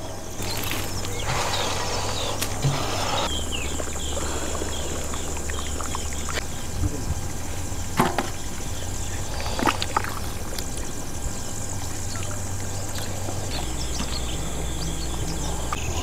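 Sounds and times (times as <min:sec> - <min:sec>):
insects chirring: 0:00.0 - 0:16.0
low hum: 0:00.0 - 0:16.0.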